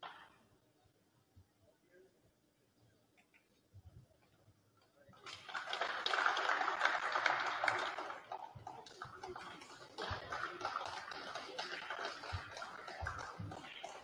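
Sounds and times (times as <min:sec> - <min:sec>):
murmur of spectators talking: 0:00.0 - 0:14.0.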